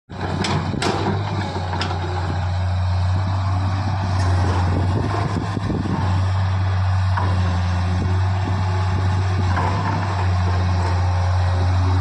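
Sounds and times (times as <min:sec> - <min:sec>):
heavy diesel engine running: 0:00.1 - 0:12.0.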